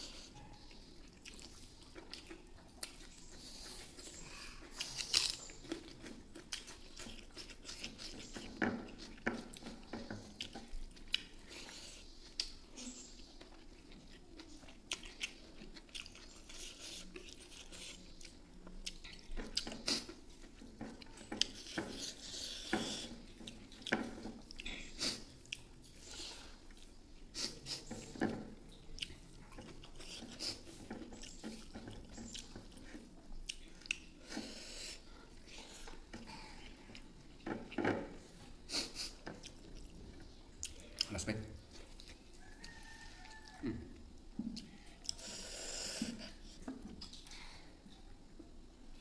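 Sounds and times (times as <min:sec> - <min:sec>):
wet chewing and lip smacks: 0:00.2 - 0:34.4, 0:38.7 - 0:45.4.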